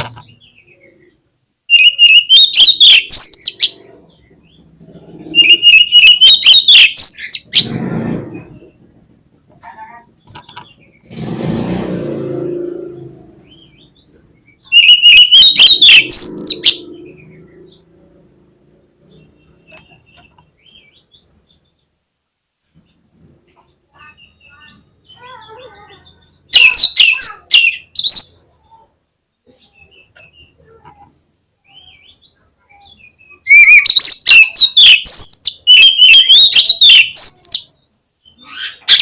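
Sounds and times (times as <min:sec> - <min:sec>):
bird chirps and calls: 0:00.0 - 0:09.0, 0:12.0 - 0:21.9, 0:22.6 - 0:39.0
bird singing: 0:00.0 - 0:09.0, 0:12.0 - 0:22.0, 0:22.6 - 0:39.0.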